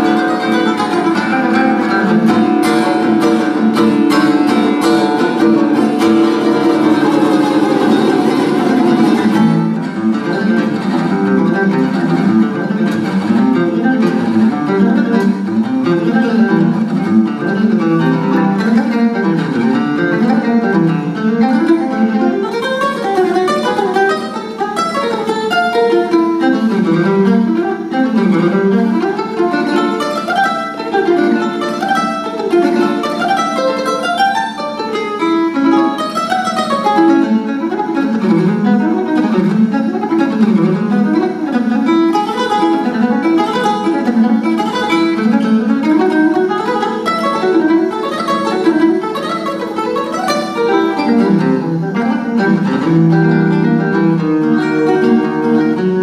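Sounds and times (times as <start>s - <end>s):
fingerstyle classical guitar: 0.0s - 56.0s.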